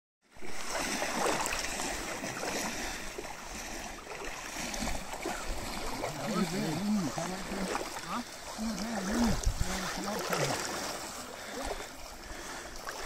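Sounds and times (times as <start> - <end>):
water lapping and sloshing: 0.2 - 13.0.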